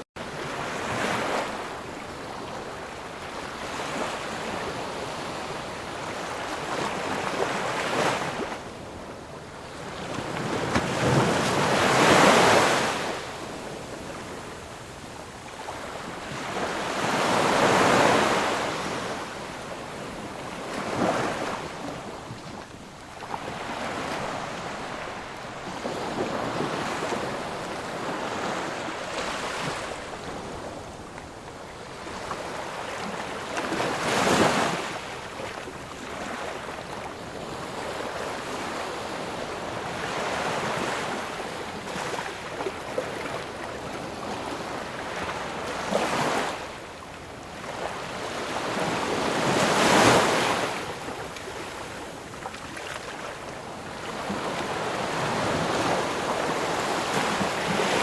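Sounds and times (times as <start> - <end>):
waves breaking: 0.2 - 14.6, 15.6 - 58.0.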